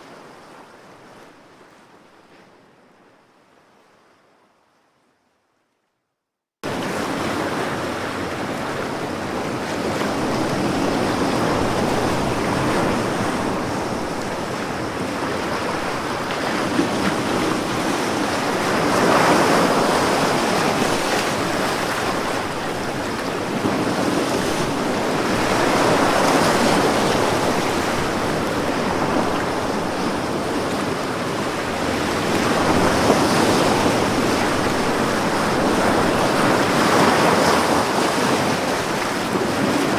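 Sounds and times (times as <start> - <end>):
ocean waves breaking on shore: 6.6 - 39.9.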